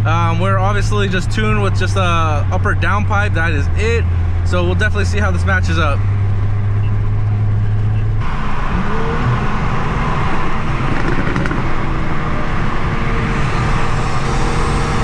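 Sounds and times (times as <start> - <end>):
car engine drone: 0.0 - 15.0
tyre road noise: 0.0 - 15.0.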